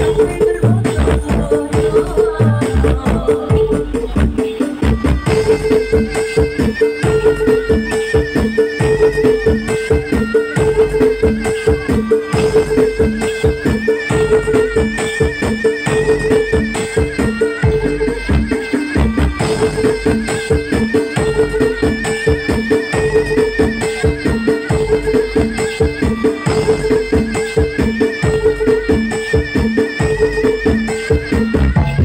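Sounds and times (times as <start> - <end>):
rattling percussion: 0.0 - 32.0
wavering high melody: 3.2 - 32.0.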